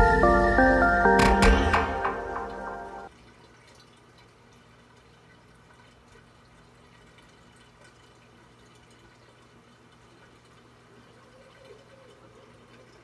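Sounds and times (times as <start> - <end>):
water trickling and dripping: 1.8 - 13.0.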